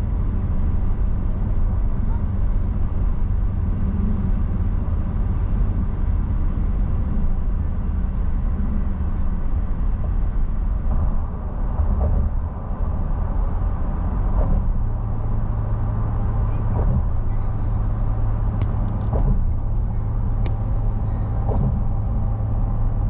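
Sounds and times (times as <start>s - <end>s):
tyre and road noise in car: 0.0s - 23.0s.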